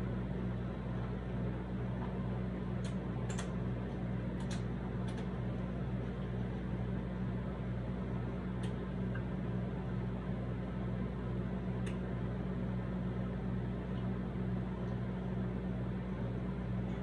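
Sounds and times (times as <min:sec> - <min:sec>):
appliance fan humming: 0:00.0 - 0:17.0.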